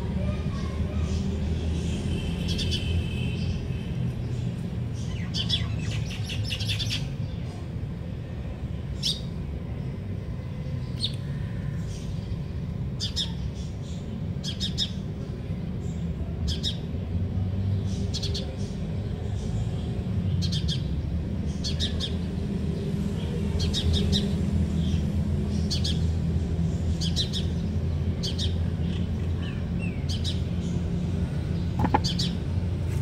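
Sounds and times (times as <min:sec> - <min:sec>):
small birds chirping: 0:00.1 - 0:33.0.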